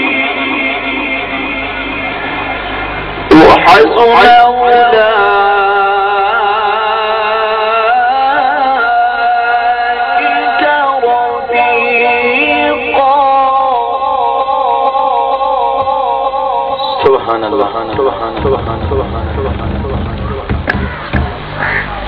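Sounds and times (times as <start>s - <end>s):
person chanting recitation: 0.0s - 2.6s, 3.2s - 22.0s.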